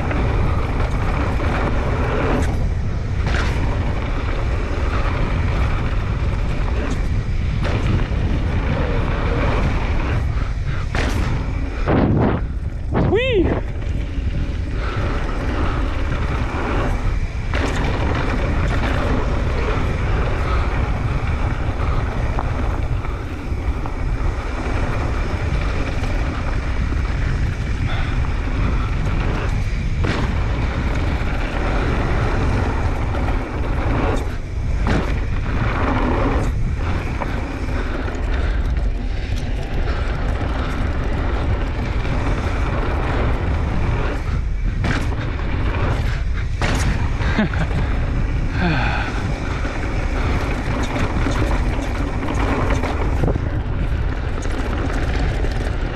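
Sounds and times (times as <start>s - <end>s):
bike clattering over bumps: 0.0s - 55.9s
bike tyres on dirt trail: 0.0s - 55.9s
wind rumble on camera: 0.0s - 55.9s.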